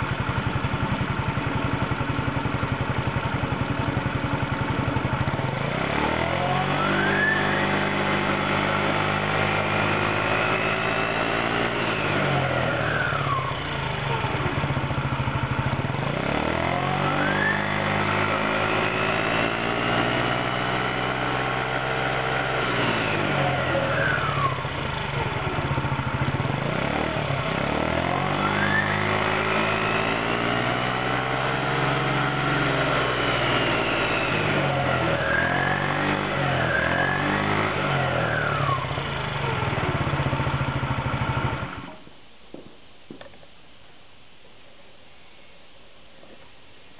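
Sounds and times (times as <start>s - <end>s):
scooter engine revving: 0.0s - 42.1s.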